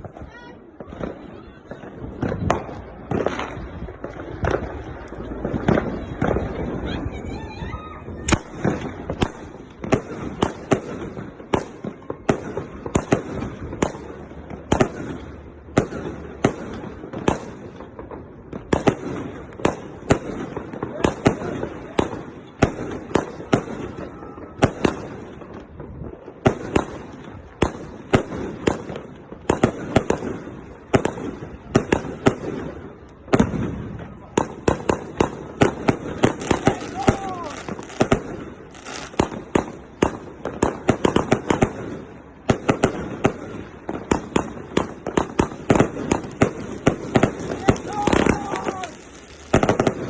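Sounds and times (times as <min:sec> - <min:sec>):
fireworks firing sharp bangs: 0:00.0 - 0:50.0.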